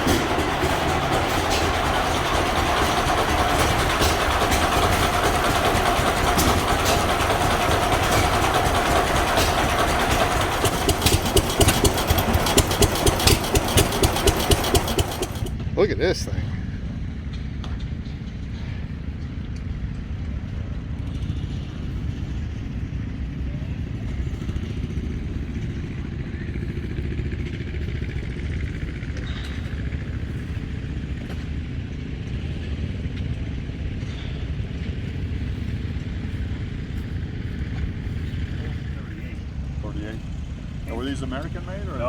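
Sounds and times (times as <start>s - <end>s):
engine rumbling: 0.0s - 17.0s, 21.2s - 42.0s.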